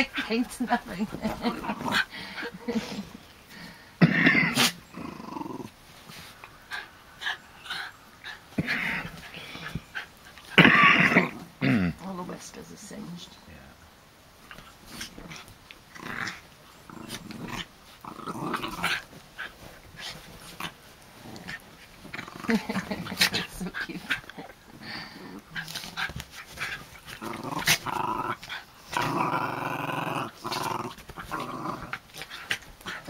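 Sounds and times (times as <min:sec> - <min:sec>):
dogs growling playfully: 0:00.0 - 0:03.3, 0:04.0 - 0:12.2, 0:14.4 - 0:33.0.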